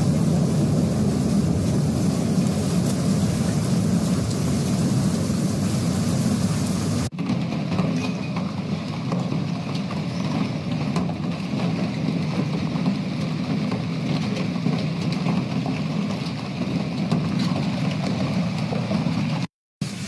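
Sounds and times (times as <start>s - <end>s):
hail pelting ground and car: 0.0s - 19.5s.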